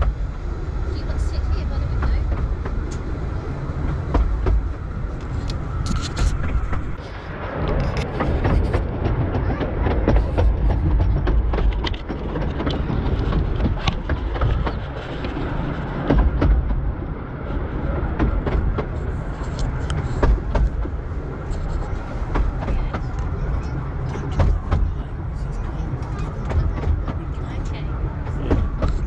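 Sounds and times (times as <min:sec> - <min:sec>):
train rumbling along track: 0:00.0 - 0:29.0
wheels clicking on rail joints: 0:00.0 - 0:29.0.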